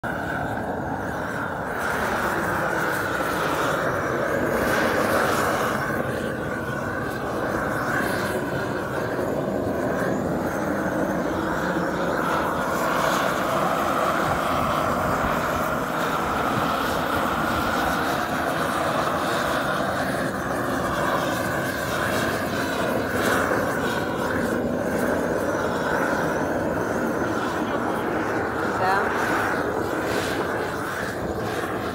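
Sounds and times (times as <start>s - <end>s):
blowtorch flame burning: 0.0s - 31.9s.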